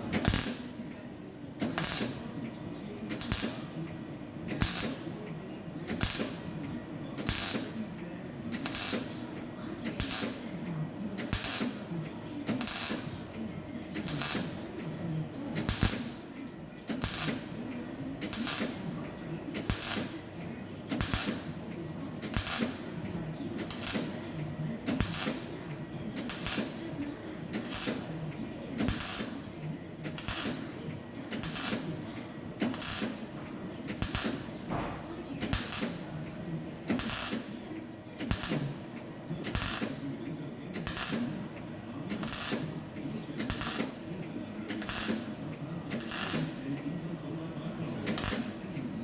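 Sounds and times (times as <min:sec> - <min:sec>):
electric welding crackling hiss: 0:00.1 - 0:00.9, 0:01.6 - 0:02.4, 0:03.1 - 0:05.3, 0:05.9 - 0:10.6, 0:11.2 - 0:13.3, 0:13.9 - 0:14.9, 0:15.6 - 0:32.0, 0:32.6 - 0:46.7, 0:48.0 - 0:48.9.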